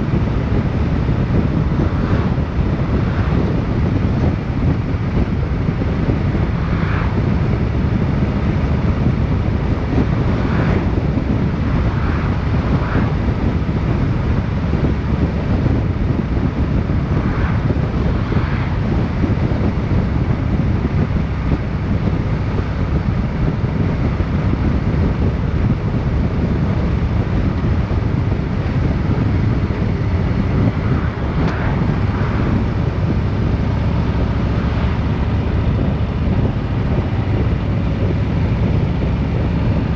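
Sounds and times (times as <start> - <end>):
vehicle rumbling: 0.0 - 39.9
wind buffeting microphone: 0.0 - 39.9.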